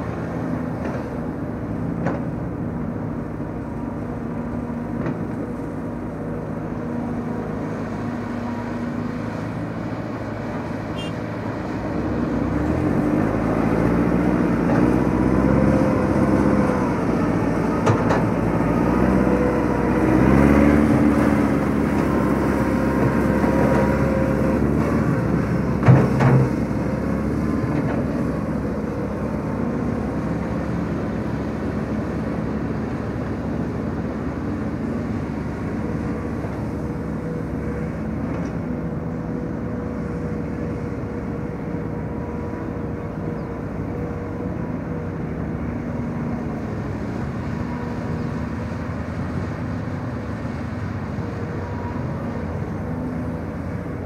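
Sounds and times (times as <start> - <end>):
crawler dump truck running: 0.0 - 54.0
excavator diesel engine digging: 0.0 - 54.0.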